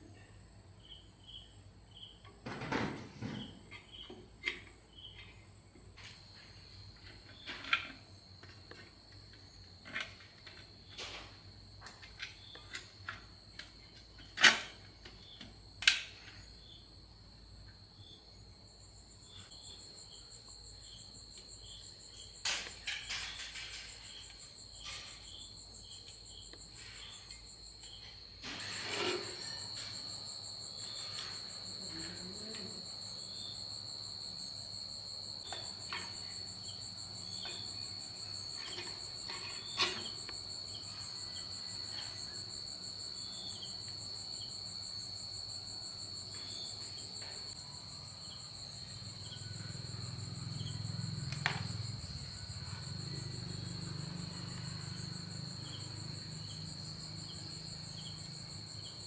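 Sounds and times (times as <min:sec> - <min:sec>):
crickets trilling: 0:00.2 - 0:59.0.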